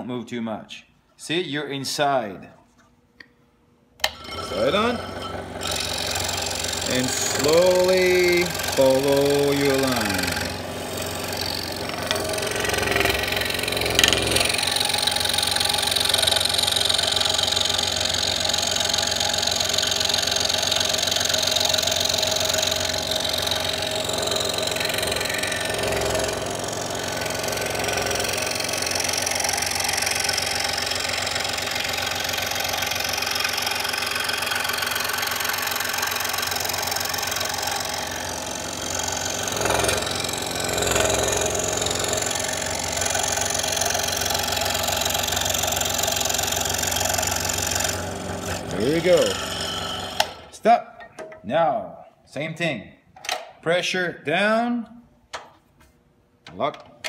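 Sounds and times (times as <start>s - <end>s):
scroll saw cutting wood: 4.0s - 50.5s.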